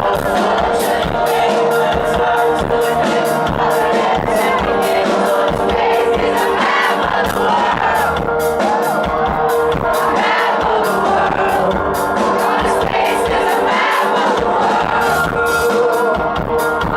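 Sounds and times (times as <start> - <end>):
crowd singing along: 0.0 - 16.9
drum beat with cymbals: 0.0 - 16.9
person singing: 0.0 - 16.9.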